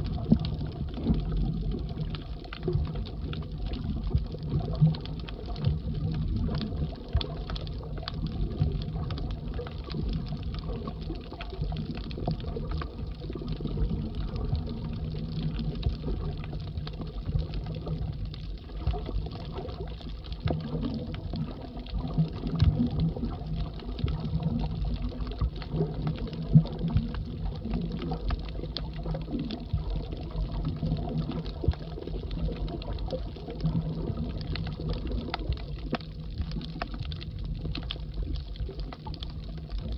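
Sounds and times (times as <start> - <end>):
faint underwater clicks and crackles: 0.0 - 39.9
underwater rumble of moving water: 0.0 - 39.9.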